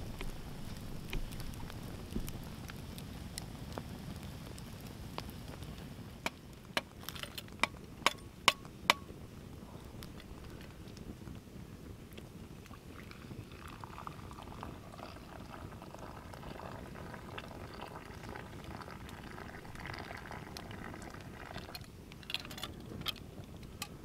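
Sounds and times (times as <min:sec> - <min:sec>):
water bubbling at a boil: 0:00.0 - 0:24.0.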